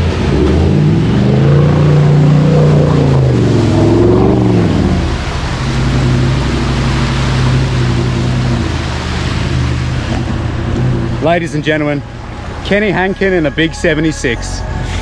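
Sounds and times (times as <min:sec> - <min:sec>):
car engine under load: 0:00.0 - 0:15.0.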